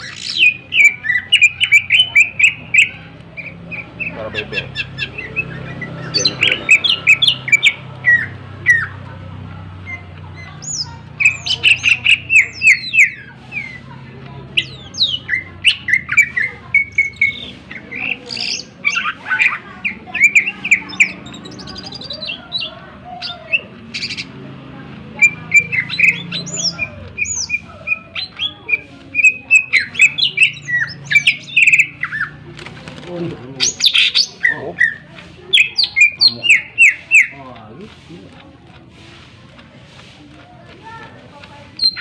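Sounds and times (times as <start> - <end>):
bird singing chirps and trills: 0.0 - 38.4, 40.8 - 42.0.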